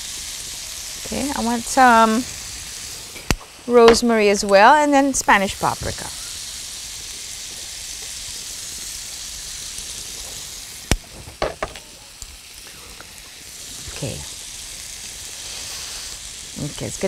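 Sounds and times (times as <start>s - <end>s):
onions and ham sizzling in a pan: 0.0s - 17.0s.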